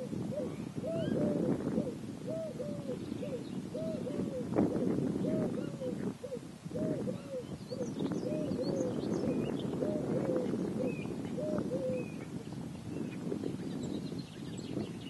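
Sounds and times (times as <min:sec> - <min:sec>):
dove cooing: 0:00.0 - 0:12.4.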